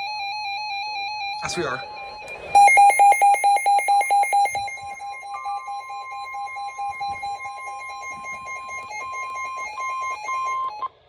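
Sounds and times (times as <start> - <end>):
steady high warning tone: 0.0 - 11.0
rapid alert beeps: 1.4 - 10.9.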